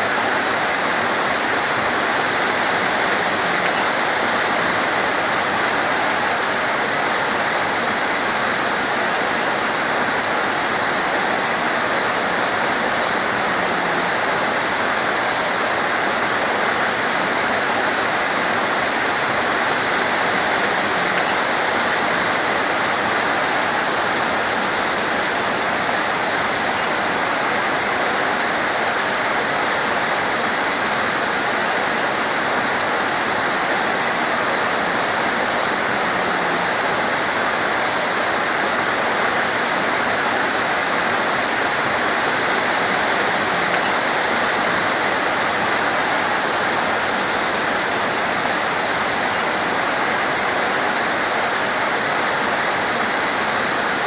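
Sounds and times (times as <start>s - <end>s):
torrential rain pouring: 0.0s - 54.0s.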